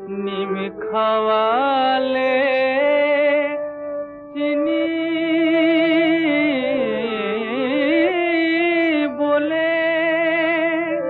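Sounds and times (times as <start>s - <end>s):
person singing with vibrato: 0.0s - 11.0s.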